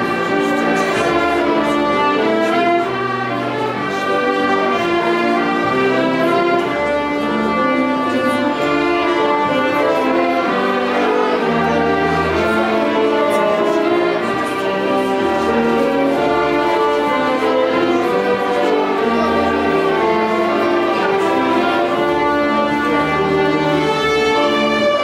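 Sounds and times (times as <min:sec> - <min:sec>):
violin ensemble playing dance tune: 0:00.0 - 0:25.0.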